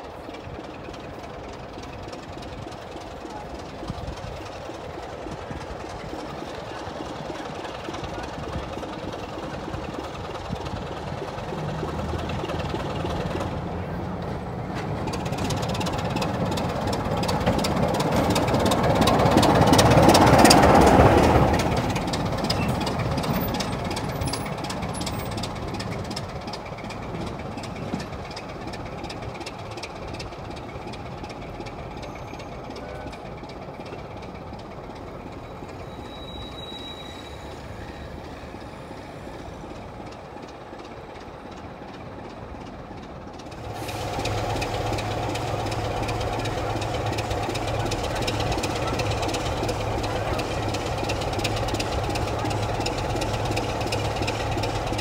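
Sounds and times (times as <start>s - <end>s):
diesel locomotive engine passing: 0.0s - 55.0s.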